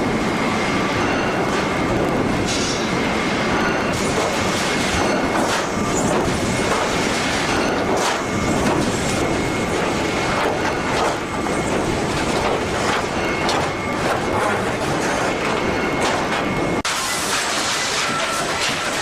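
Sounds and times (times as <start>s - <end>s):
assembly line machinery clattering: 1.4s - 19.0s.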